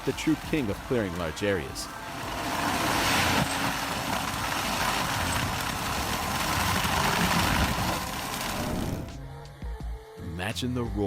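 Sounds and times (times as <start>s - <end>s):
mulcher engine under load: 0.0s - 9.2s
shredding noise: 0.0s - 9.2s.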